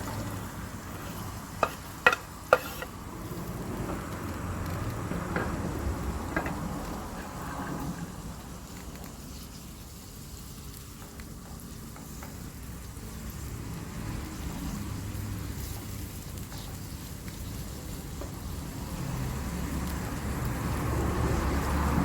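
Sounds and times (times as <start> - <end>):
fire crackling: 0.0 - 22.0
food sizzling in a pan: 0.0 - 22.0.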